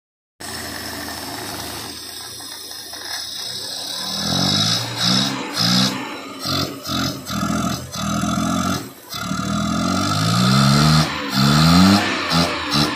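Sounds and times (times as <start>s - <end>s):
car engine idling and revving: 0.4s - 12.9s
carburettor hiss: 0.4s - 12.9s.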